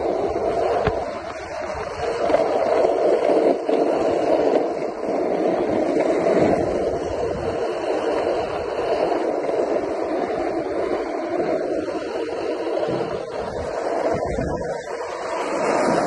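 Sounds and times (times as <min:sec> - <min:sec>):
skateboard wheels rolling on asphalt: 0:00.0 - 0:16.0.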